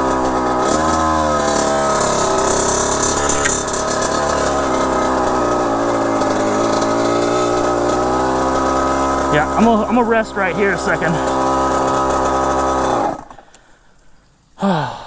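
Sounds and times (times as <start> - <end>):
two-stroke engine idling: 0.0 - 14.0.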